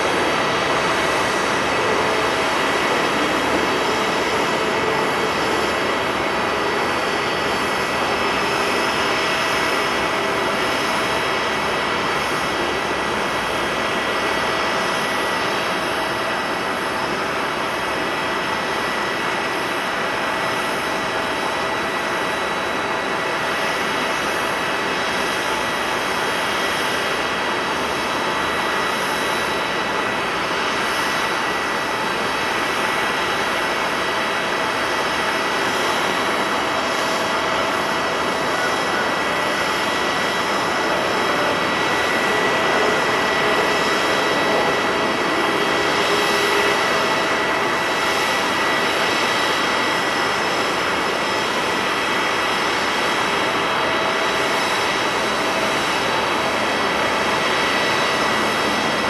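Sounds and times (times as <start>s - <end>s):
jet engines taxiing: 0.0s - 59.0s.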